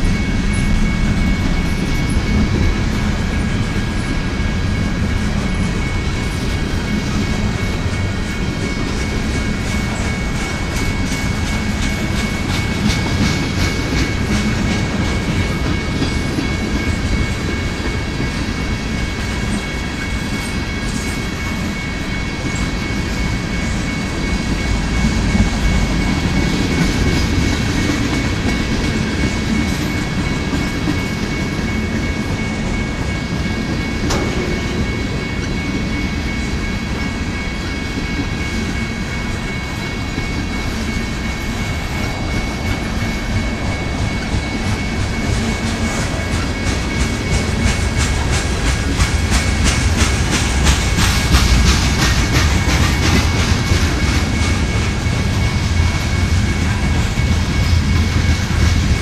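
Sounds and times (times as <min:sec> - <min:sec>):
train wheels rumbling on track: 0:00.0 - 0:59.0
wheels clicking over rail joints: 0:05.0 - 0:59.0.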